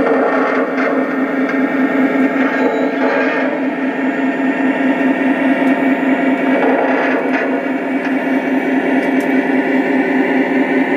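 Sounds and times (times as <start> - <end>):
model train running on track: 0.0 - 10.9.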